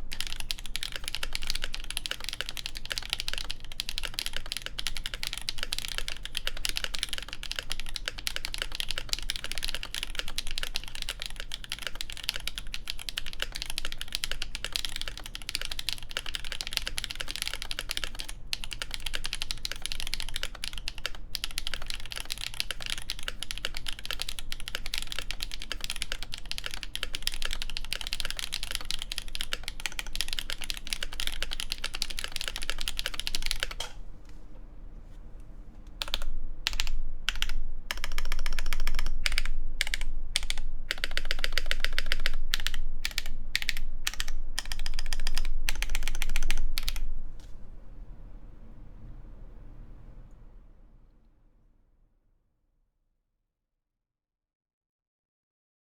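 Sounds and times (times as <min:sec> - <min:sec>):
fast typing on mechanical keyboard: 0:00.0 - 0:34.0, 0:36.0 - 0:47.1.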